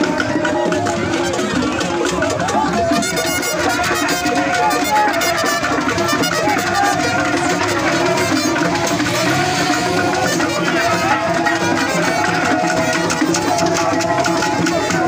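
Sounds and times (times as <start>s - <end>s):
fast hand drums and percussion: 0.0s - 15.0s.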